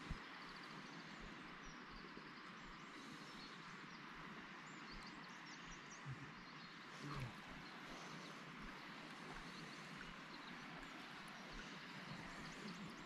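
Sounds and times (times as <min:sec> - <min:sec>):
faint steady hiss: 0:00.0 - 0:13.0
small birds chirping: 0:00.0 - 0:13.0.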